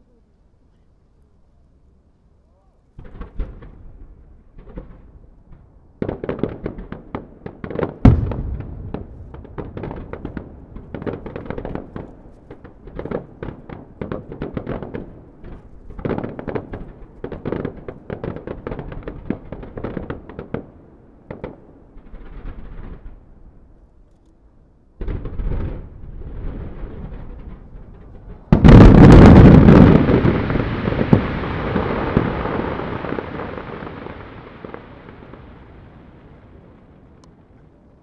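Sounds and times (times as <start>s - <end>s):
fireworks bursting: 3.0s - 23.2s, 25.0s - 37.7s.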